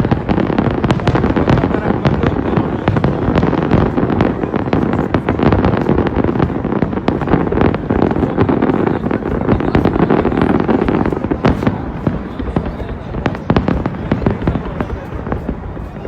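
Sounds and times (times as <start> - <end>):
fireworks bangs and crackles: 0.0 - 16.0
rumble of fireworks bursts: 0.0 - 16.0.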